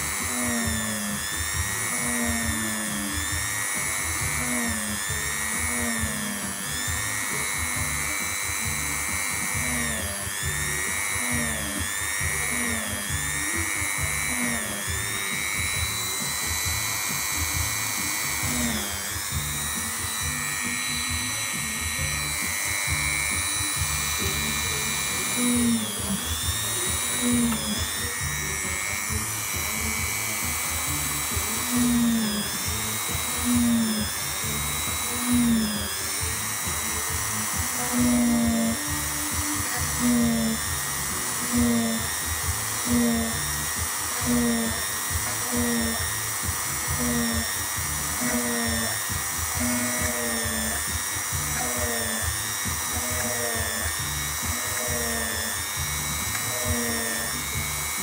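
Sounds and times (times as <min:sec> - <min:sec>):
electric drill whining: 0:00.0 - 0:58.0.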